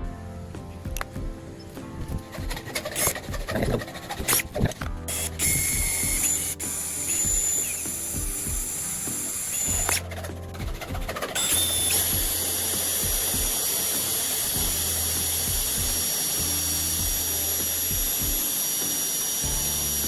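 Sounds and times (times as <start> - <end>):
background music with bass line: 0.0 - 20.0
small power tool whining: 2.5 - 10.3, 11.0 - 20.0.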